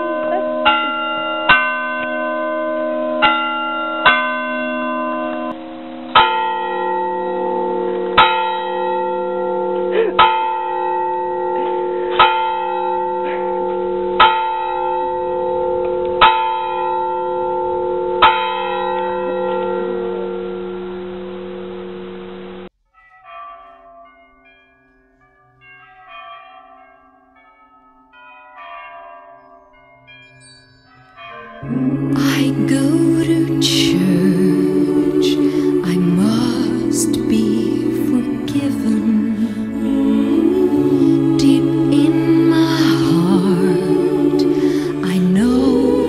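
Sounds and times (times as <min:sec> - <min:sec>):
church bells tolling: 0:00.0 - 0:20.8, 0:23.0 - 0:46.0.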